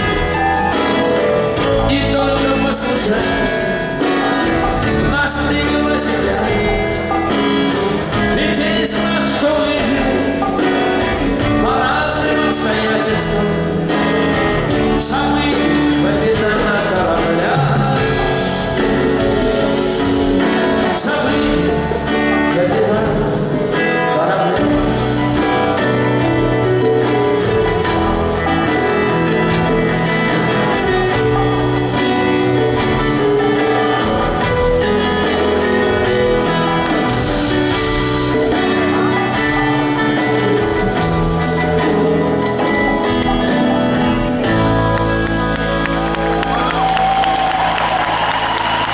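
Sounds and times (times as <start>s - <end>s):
live rock band playing: 0.0s - 48.9s
man singing: 0.2s - 45.1s.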